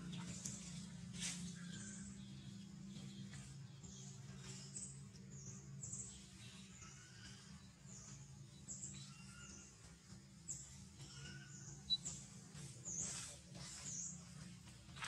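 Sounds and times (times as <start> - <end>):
low steady hum: 0.0 - 15.0
faint high bird chirps: 0.2 - 14.4.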